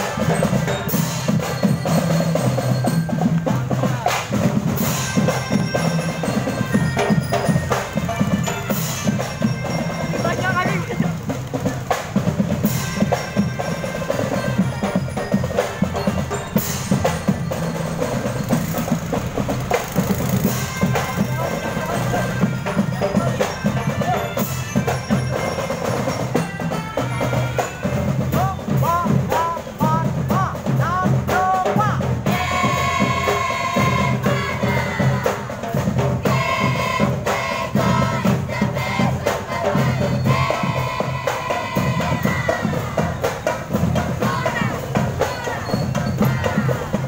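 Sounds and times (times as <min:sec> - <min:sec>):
bass and snare drums march beat: 0:00.0 - 0:47.0
marching band melody: 0:00.0 - 0:47.0.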